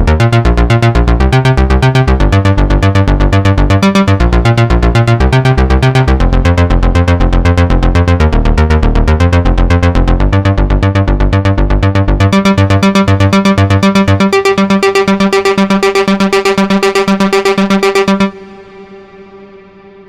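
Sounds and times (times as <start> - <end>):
synthesizer staccato bass notes: 0.0 - 19.3.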